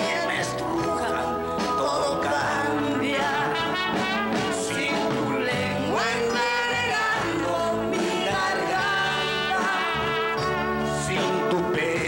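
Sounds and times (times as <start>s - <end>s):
backing music: 0.0s - 12.0s
man and woman singing duet: 0.0s - 12.0s.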